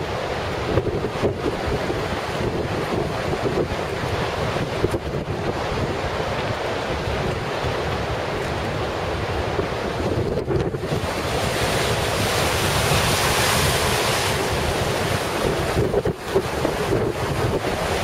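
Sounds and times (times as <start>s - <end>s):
waves breaking and surging: 0.0s - 18.0s
wind buffeting microphone: 0.0s - 18.0s.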